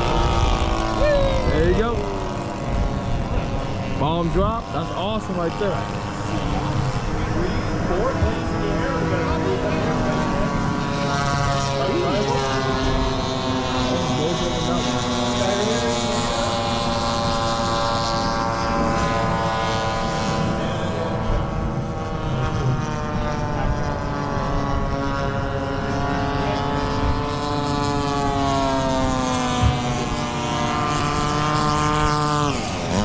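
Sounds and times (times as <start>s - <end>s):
model plane engine and propeller: 0.0s - 33.0s.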